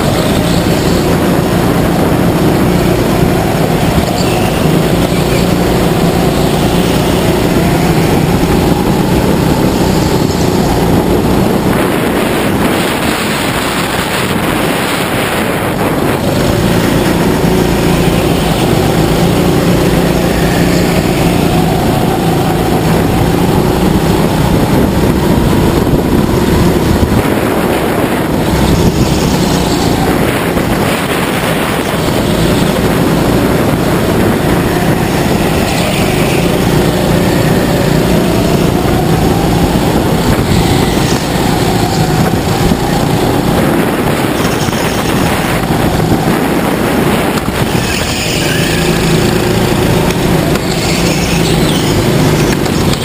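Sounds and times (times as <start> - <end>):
go-kart engine running: 0.0 - 53.0
rush of noise: 0.0 - 53.0.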